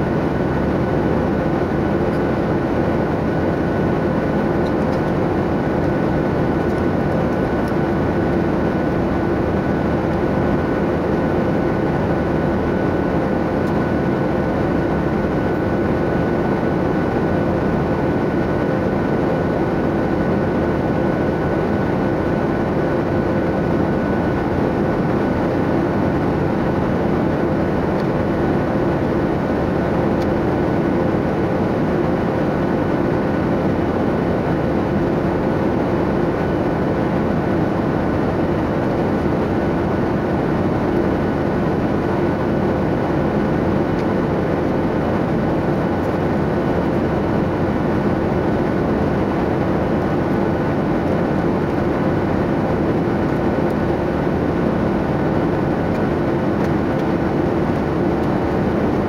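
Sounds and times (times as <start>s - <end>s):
airliner cabin rushing hum: 0.0s - 59.0s.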